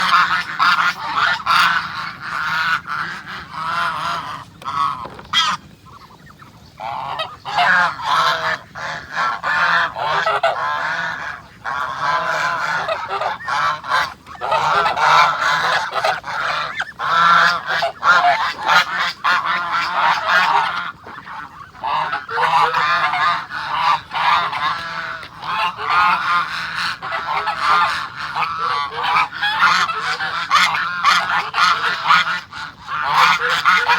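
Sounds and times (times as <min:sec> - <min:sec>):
geese honking: 0:00.0 - 0:33.9.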